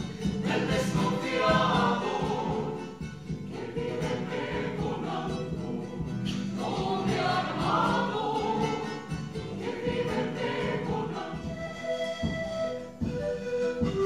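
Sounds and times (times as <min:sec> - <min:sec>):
group singing together: 0:00.0 - 0:12.0
bass drum: 0:00.0 - 0:14.0
strummed acoustic guitars: 0:00.0 - 0:14.0.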